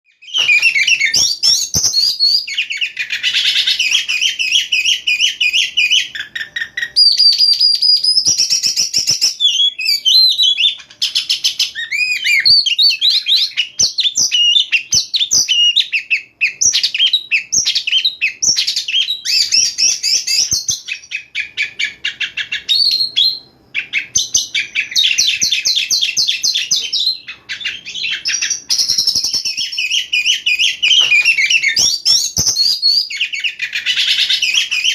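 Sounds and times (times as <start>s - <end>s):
bird singing varied song: 0.0s - 34.9s.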